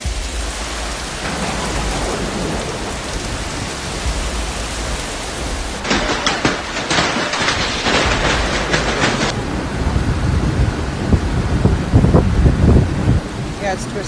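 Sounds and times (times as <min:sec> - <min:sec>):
crackling and rattling knocks: 0:00.0 - 0:13.6
heavy rain: 0:00.0 - 0:14.0
storm wind: 0:00.0 - 0:14.0.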